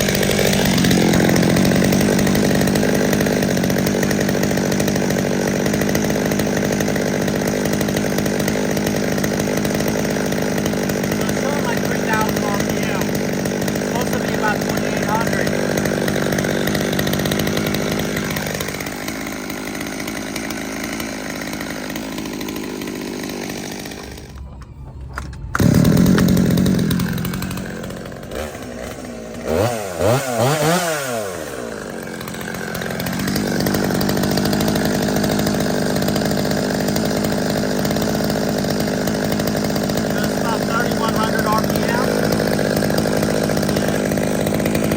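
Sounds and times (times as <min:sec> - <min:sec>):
chainsaw engine running and revving: 0:00.0 - 0:44.9.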